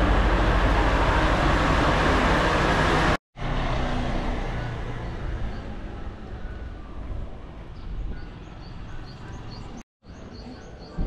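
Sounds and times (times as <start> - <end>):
street ambience: 0.0 - 11.0.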